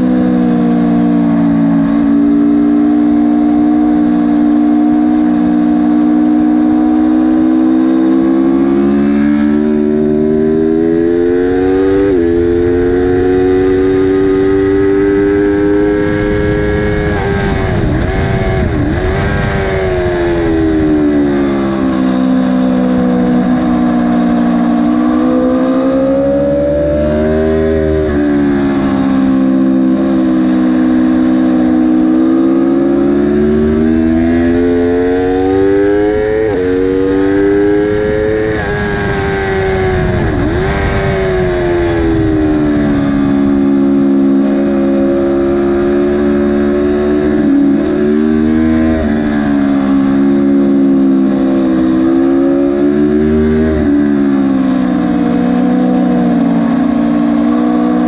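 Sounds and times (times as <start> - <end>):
motorcycle engine at full throttle: 0.0 - 58.0.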